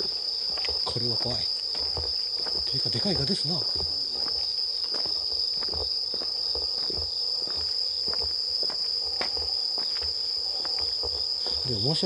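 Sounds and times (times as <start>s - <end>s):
footsteps on stone path: 0.0s - 12.0s
night insects chorus: 0.0s - 12.0s.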